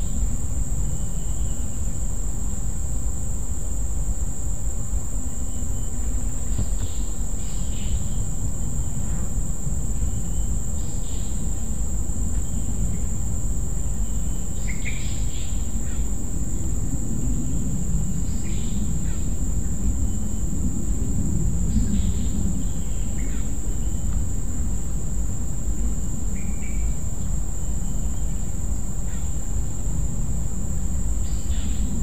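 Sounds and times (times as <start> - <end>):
high-pitched insect trill: 0.0 - 32.0.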